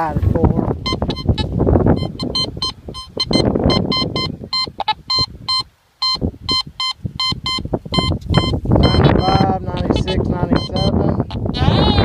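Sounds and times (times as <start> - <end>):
metal detector high-pitched beeps: 0.8 - 12.0.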